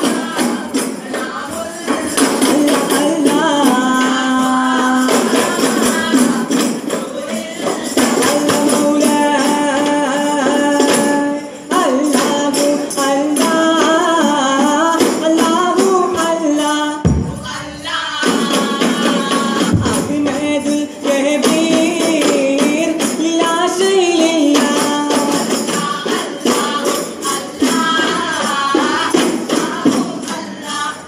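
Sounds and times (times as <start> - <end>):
frame drums beating: 0.0 - 31.0
men singing in unison: 0.0 - 31.0.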